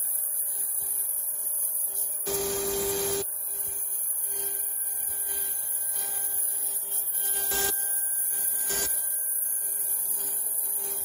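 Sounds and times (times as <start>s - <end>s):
router spindle milling wood: 1.8s - 11.0s.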